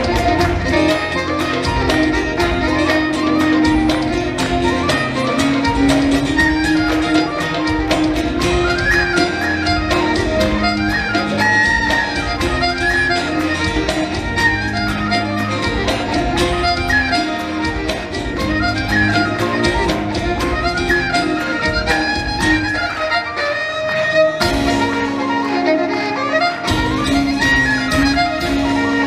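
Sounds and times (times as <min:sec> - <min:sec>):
steady drum beat: 0:00.0 - 0:25.8, 0:26.5 - 0:29.0
fiddle melody: 0:00.0 - 0:29.0.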